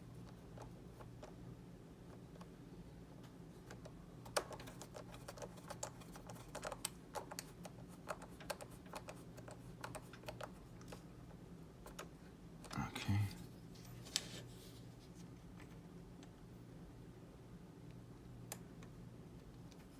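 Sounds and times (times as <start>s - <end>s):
faint low hum: 0.0s - 19.9s.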